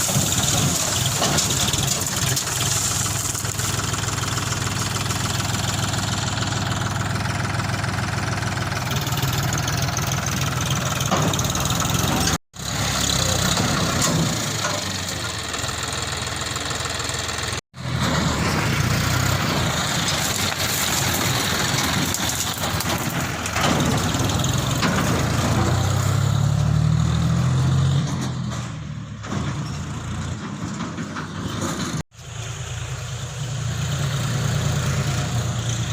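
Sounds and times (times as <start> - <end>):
diesel tractor engine running: 0.0 - 35.9.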